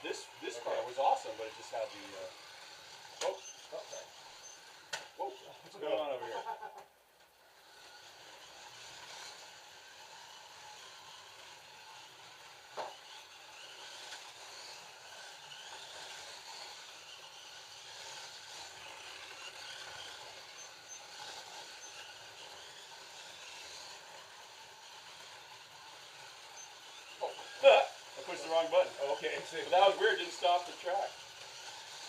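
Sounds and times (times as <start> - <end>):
slot car motors whirring: 0.0 - 32.0.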